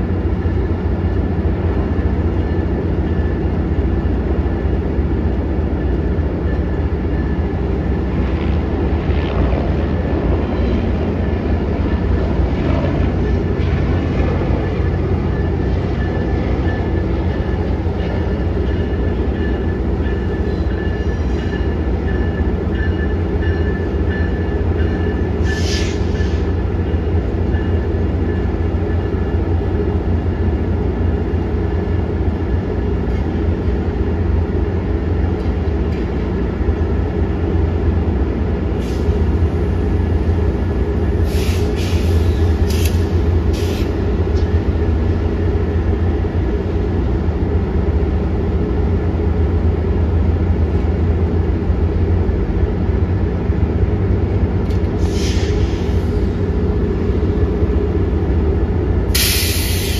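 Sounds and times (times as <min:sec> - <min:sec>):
locomotive rumble: 0:00.0 - 0:59.9.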